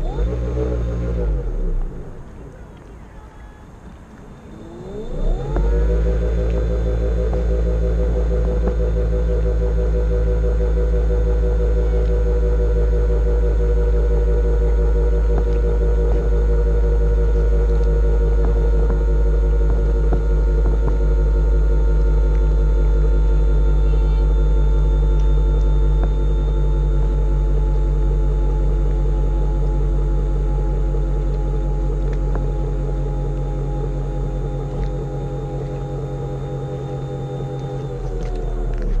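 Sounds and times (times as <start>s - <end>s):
airboat motor and propeller: 0.0s - 39.0s.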